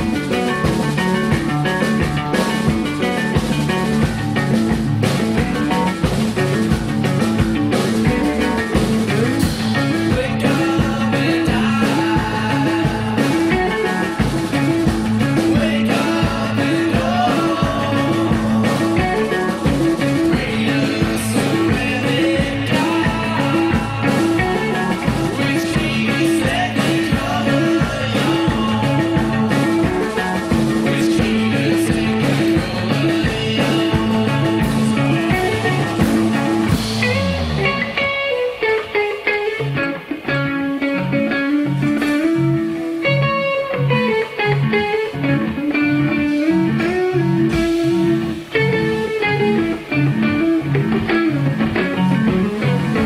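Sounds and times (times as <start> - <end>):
live rock band playing: 0.0 - 53.0.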